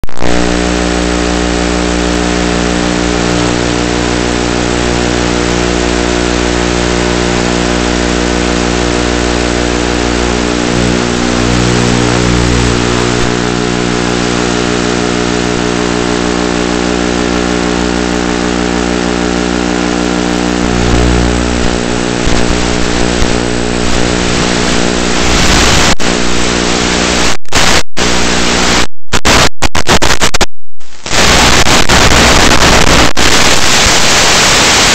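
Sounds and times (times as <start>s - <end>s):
radio hiss: 0.0s - 1.0s, 1.8s - 18.5s, 19.4s - 34.9s
loud buzzing drone: 0.0s - 30.2s, 31.0s - 34.9s.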